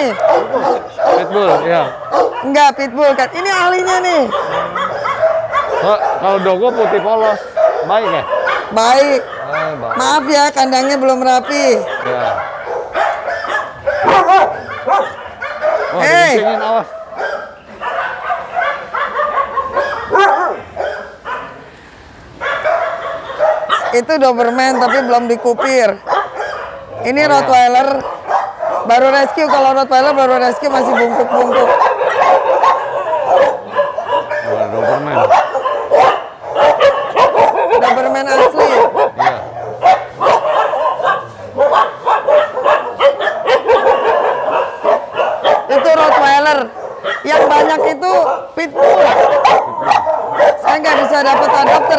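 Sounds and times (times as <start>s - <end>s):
dog yelping: 0.0s - 21.6s, 22.4s - 51.9s
dogs barking: 0.0s - 51.9s.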